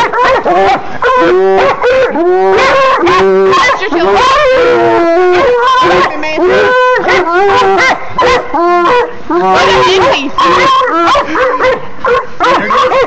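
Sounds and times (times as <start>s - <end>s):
hounds baying and howling: 0.0s - 13.0s.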